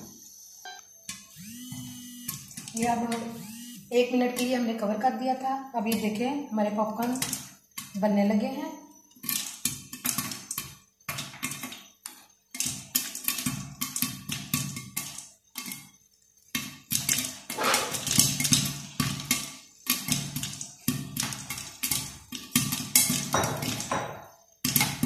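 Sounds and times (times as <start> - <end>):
popcorn popping: 1.0 - 25.0.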